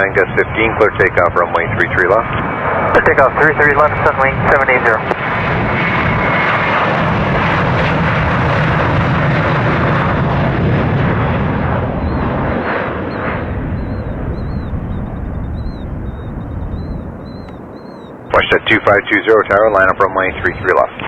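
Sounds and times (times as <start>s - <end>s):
jet engines rumbling at takeoff: 0.0s - 21.0s.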